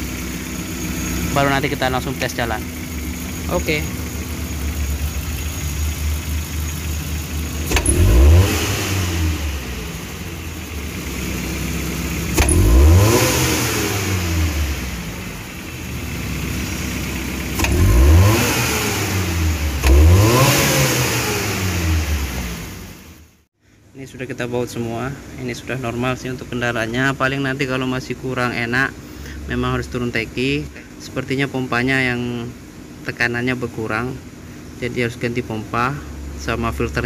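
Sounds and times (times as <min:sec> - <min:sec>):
car engine idling and revving: 0:00.0 - 0:23.5, 0:27.7 - 0:37.0.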